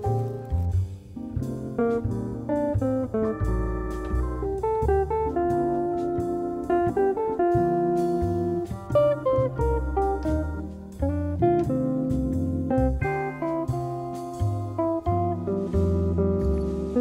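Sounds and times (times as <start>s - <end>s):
bass line: 0.0s - 17.0s
plucked guitar melody: 0.0s - 17.0s.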